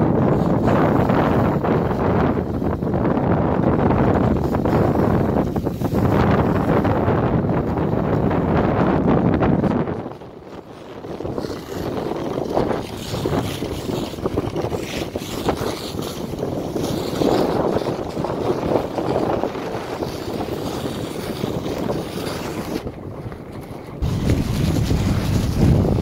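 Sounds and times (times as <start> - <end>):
snow rushing under sled: 0.0 - 23.0, 24.0 - 26.0
wind buffeting microphone: 0.0 - 26.0.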